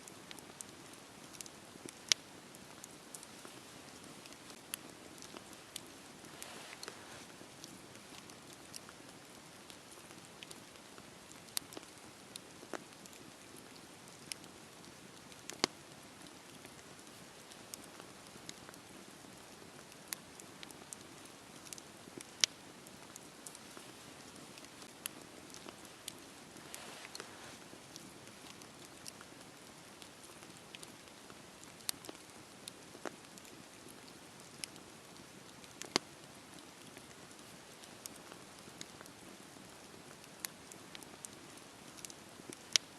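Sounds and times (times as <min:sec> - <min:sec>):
campfire flames hissing: 0:00.0 - 0:42.9
fire crackling and popping: 0:00.0 - 0:42.9.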